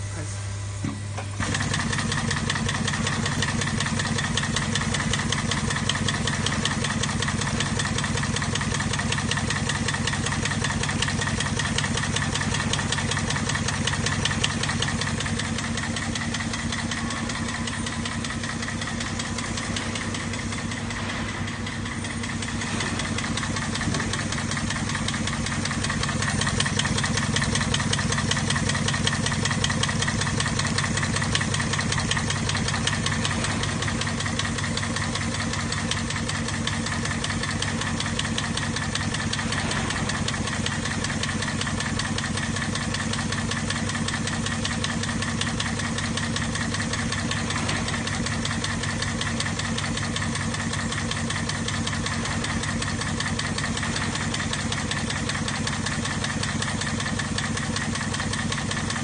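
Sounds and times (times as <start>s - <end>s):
rapid mechanical clatter: 1.4s - 59.0s.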